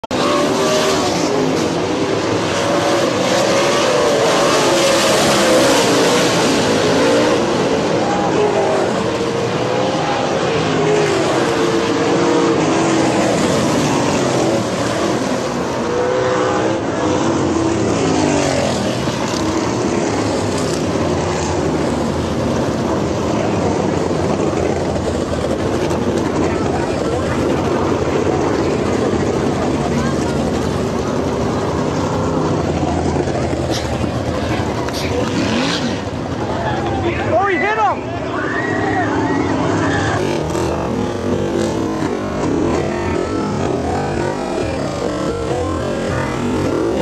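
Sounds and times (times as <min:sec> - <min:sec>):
race car engines running hard: 0:00.0 - 0:47.0.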